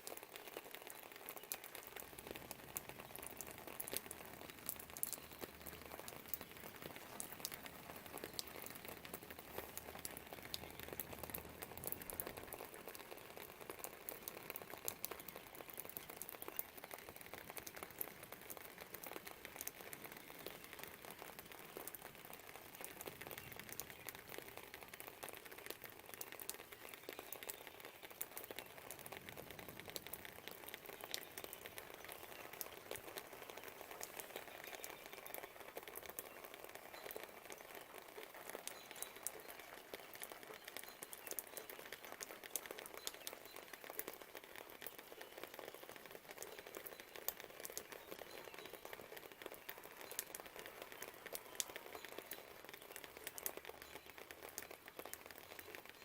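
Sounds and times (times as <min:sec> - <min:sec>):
rain pattering outside window: 0:00.0 - 0:56.0.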